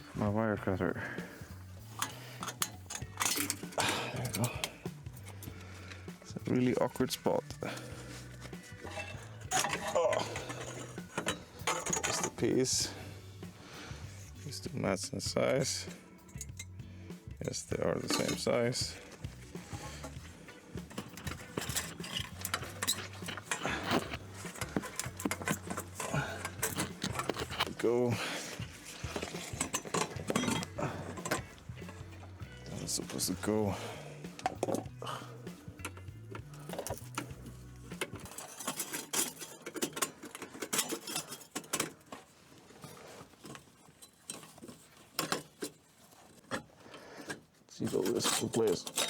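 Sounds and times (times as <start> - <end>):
metal pipes and tools clinking: 0.0 - 49.0.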